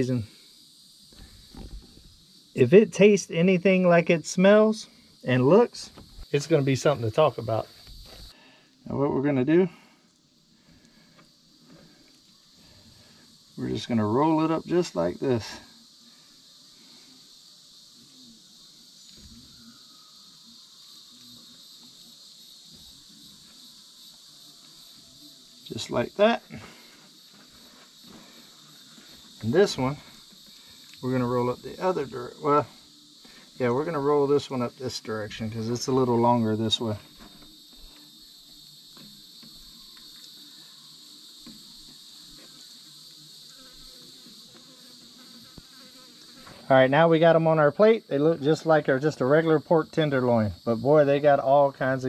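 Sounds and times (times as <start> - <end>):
insects chorus: 0.0 - 52.0.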